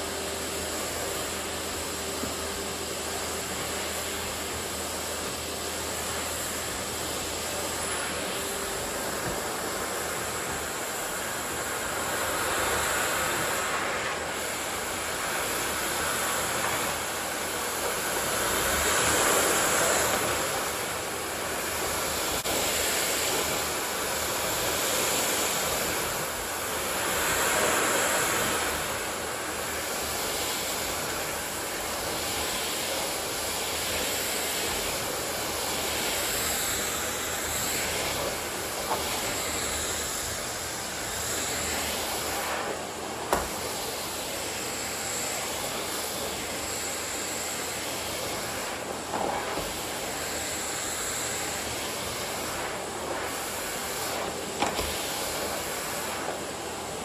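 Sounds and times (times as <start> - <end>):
vacuum cleaner whooshing: 0.0 - 57.0.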